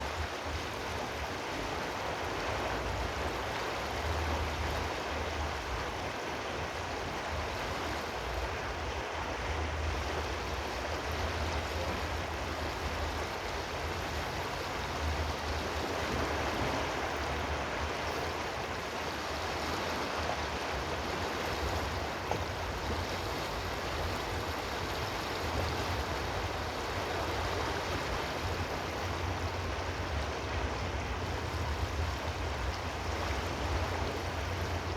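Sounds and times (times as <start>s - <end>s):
running water rushing: 0.0s - 34.9s.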